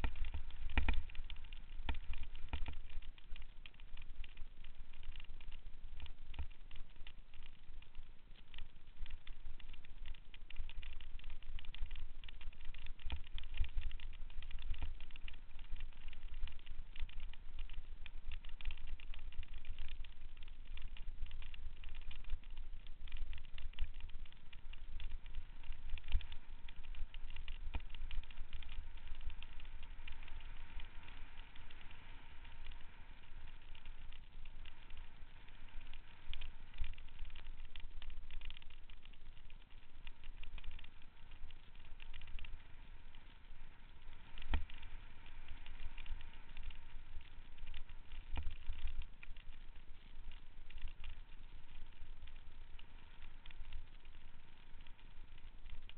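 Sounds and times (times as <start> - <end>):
bike tyres on gravel trail: 0.0 - 55.9
wind rumbling on microphone: 0.0 - 55.9.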